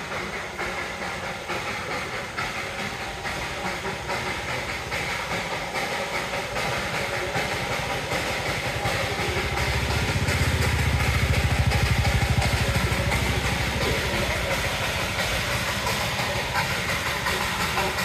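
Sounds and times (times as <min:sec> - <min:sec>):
low fast pulsing beat: 0:00.0 - 0:18.0
steam locomotive hissing: 0:00.0 - 0:18.0.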